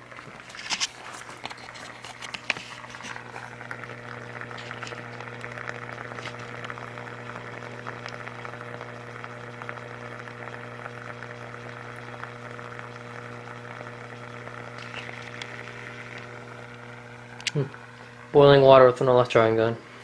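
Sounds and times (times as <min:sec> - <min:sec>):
water fizzing and sizzling: 0:00.0 - 0:19.6
low electrical hum: 0:00.0 - 0:20.0.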